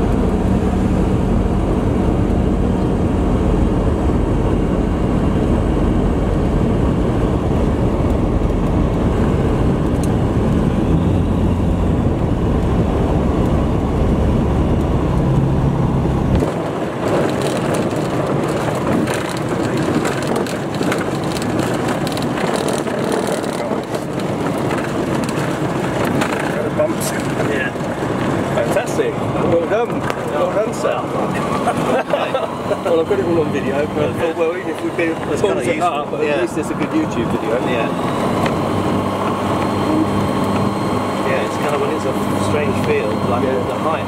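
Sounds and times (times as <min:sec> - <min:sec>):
aircraft engine humming: 0:00.0 - 0:44.0
airframe rattling and rumbling: 0:00.0 - 0:44.0.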